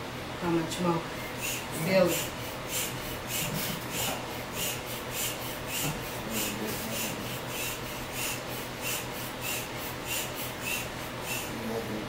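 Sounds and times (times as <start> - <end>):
hand air pump puffing: 1.2 - 11.6.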